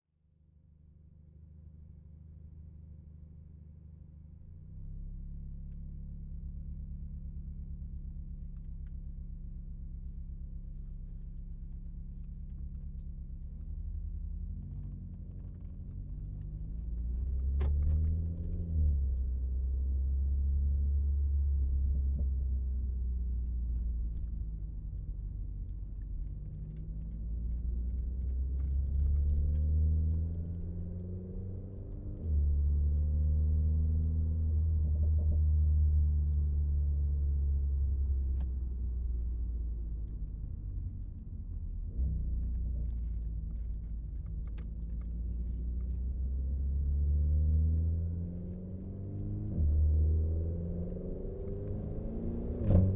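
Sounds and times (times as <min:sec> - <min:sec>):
car engine idling and revving: 0:01.0 - 0:52.9.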